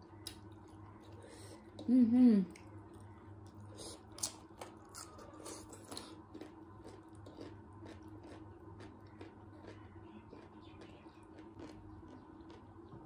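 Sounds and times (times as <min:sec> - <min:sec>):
crunchy chewing: 0:02.5 - 0:13.0.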